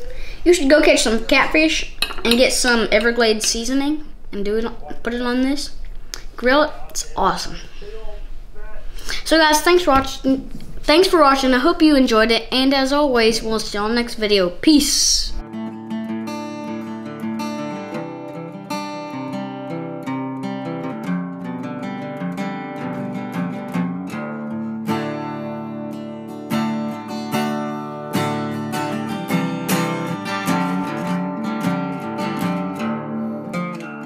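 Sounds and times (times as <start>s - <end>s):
acoustic guitar music: 0.0s - 7.6s, 9.2s - 34.0s.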